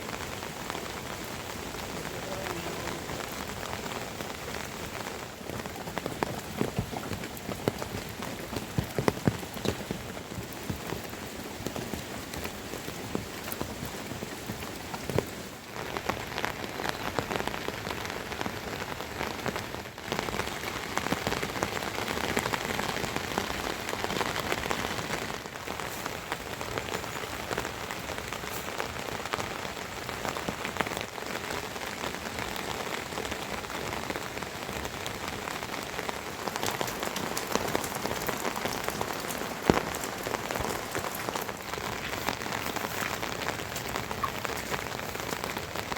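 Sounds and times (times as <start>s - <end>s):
rain patter: 0.0s - 45.9s.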